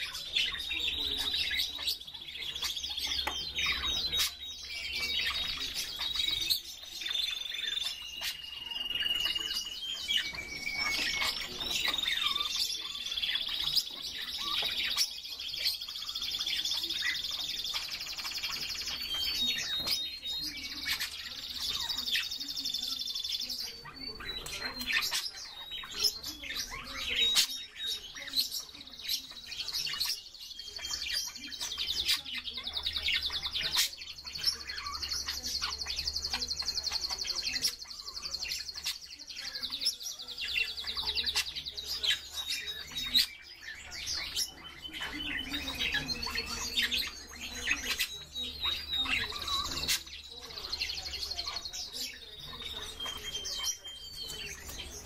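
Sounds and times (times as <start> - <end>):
cage birds chirping and twittering: 0.0 - 55.0.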